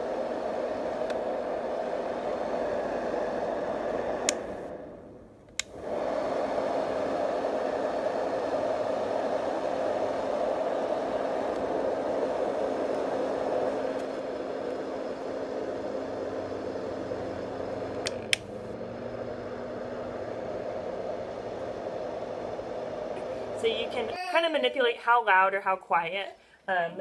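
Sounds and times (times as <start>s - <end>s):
white noise machine fan rushing: 0.0s - 25.1s.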